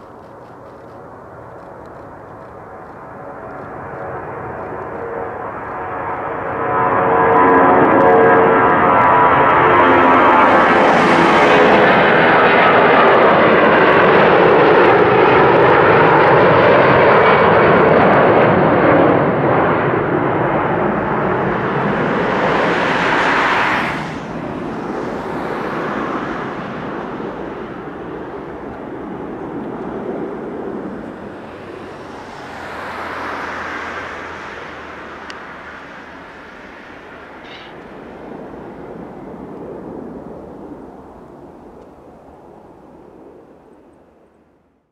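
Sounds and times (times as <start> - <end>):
distant aircraft rumble: 0.0 - 44.9
jet engines at takeoff power: 0.0 - 44.9.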